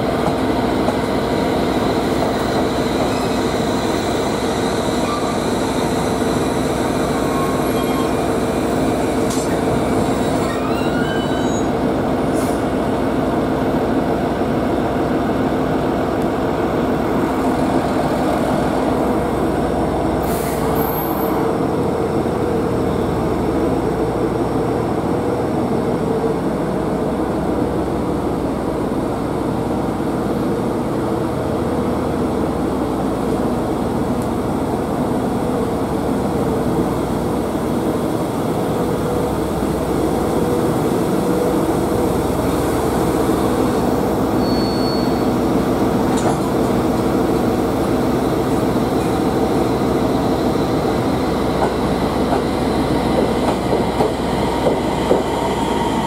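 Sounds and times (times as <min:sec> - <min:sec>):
electric train humming: 0:00.0 - 0:44.4, 0:45.2 - 0:56.0.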